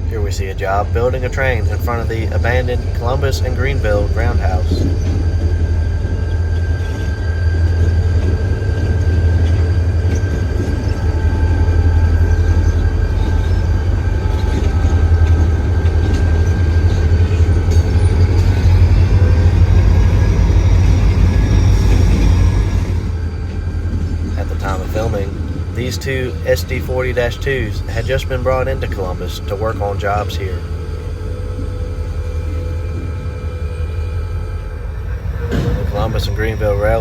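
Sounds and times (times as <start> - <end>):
diesel locomotive engines droning: 0.0 - 37.0
high-pitched whine: 0.0 - 37.0.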